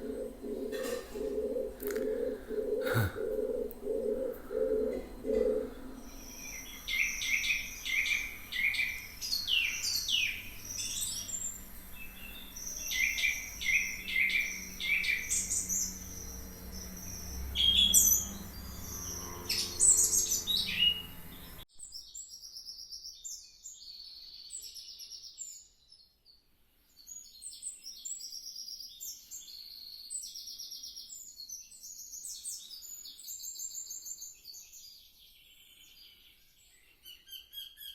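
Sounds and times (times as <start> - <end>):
songbirds singing: 0.0 - 37.9.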